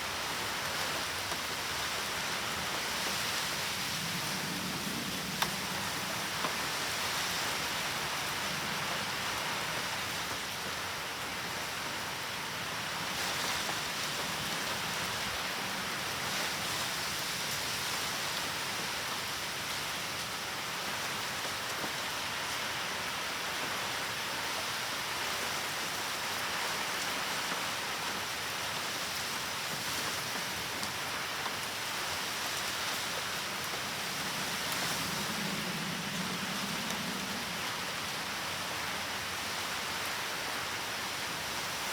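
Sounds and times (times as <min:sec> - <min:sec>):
heavy rain pattering: 0:00.0 - 0:41.9.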